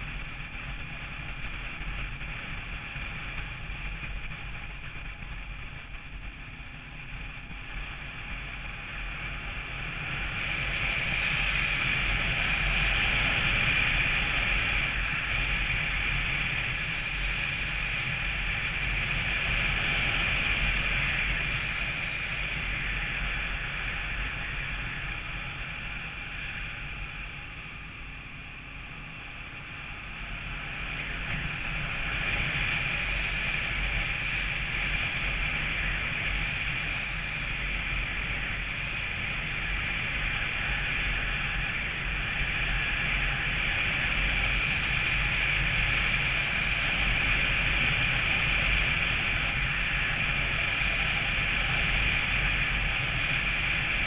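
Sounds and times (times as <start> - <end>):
low engine rumble: 0.0 - 54.0
road and wind noise: 0.0 - 54.0.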